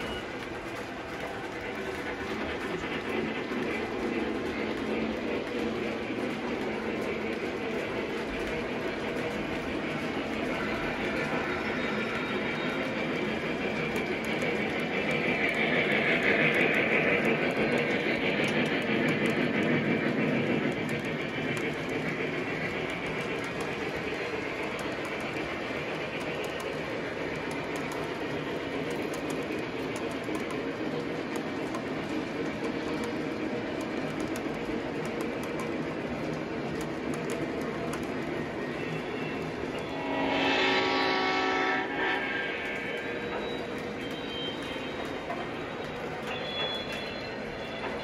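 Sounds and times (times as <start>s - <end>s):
wheels clicking over rail joints: 0.0s - 39.8s
model train rumble: 0.0s - 48.0s.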